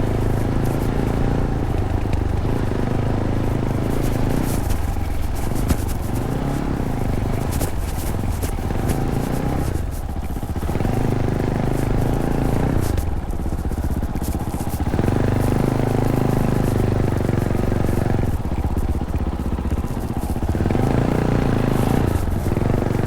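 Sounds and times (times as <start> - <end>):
clicks and clatter over rough ground: 0.0 - 23.0
motorcycle engine running: 0.0 - 23.0.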